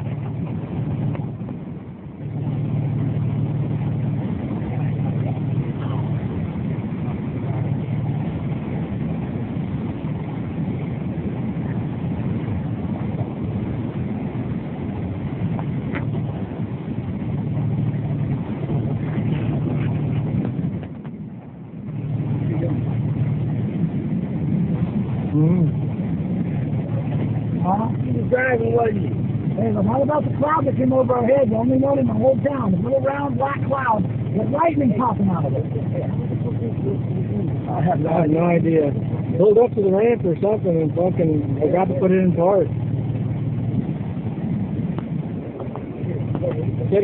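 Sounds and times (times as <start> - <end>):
engine running: 0.0 - 47.0.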